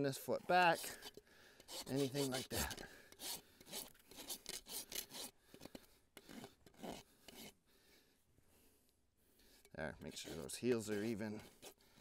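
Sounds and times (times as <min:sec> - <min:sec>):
hoof rasp filing hoof: 0:00.2 - 0:07.6, 0:09.4 - 0:12.0.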